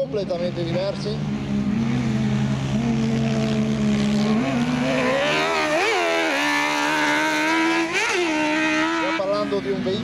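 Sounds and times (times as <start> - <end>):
kart engine revving: 0.3 - 10.0.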